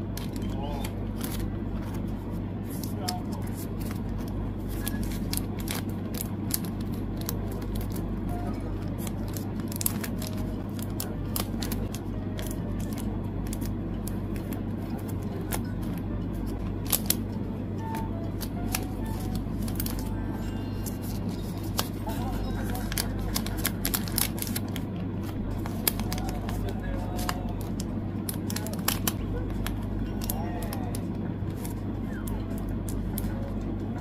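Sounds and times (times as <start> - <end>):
low hum: 0.0 - 34.0
plastic sleeves crinkling: 0.1 - 16.0, 17.9 - 33.5.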